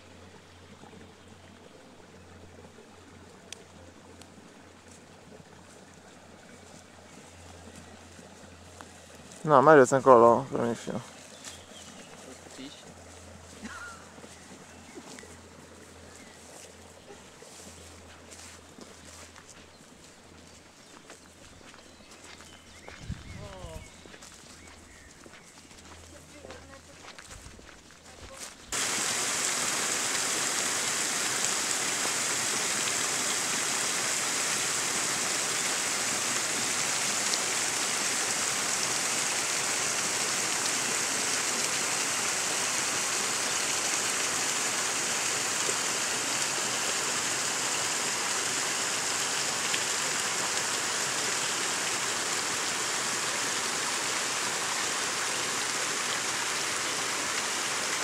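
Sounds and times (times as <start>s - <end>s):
brook running over stones: 0.0s - 58.0s.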